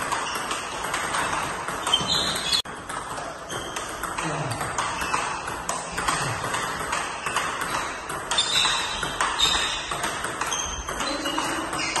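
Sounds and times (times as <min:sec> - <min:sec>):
table tennis ball pings: 0:00.0 - 0:12.0.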